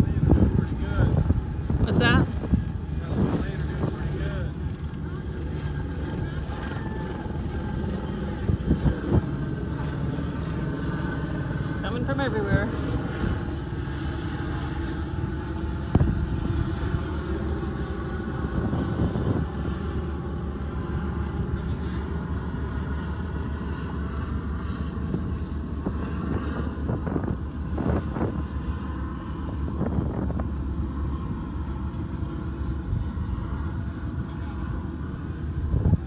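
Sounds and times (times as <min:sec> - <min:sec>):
engine rumble: 0:00.0 - 0:36.0.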